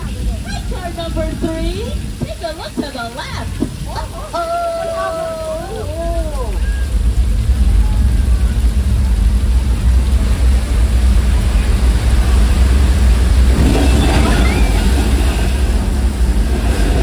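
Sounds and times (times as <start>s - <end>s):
rushing flood water: 0.0s - 17.0s.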